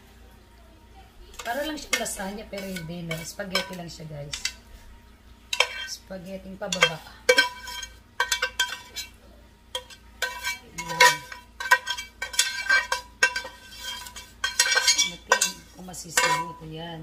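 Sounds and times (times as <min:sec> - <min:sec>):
spoon scraping a pot: 0:01.4 - 0:04.9, 0:05.5 - 0:16.7.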